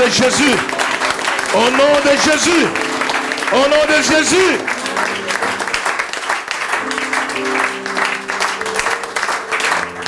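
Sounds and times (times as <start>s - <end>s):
crowd applauding: 0.0s - 10.0s
sustained chords music: 0.0s - 10.0s.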